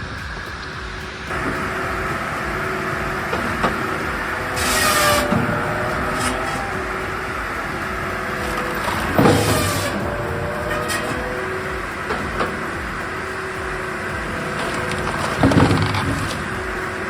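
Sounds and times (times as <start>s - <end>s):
loud hissing burst: 0.0s - 17.0s
wood-processing machine engine drone: 0.0s - 17.0s.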